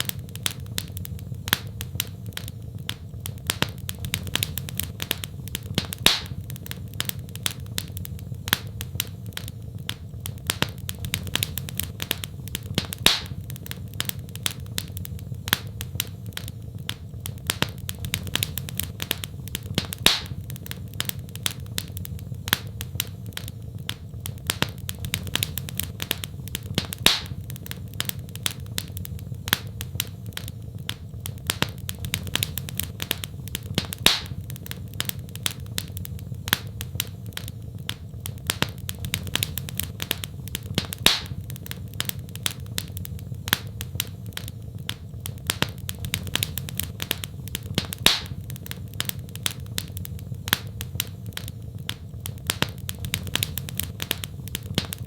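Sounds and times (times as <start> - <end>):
low fire rumble: 0.0 - 55.0
sharp fire pops: 0.0 - 55.0
wood fire crackling: 0.0 - 55.0.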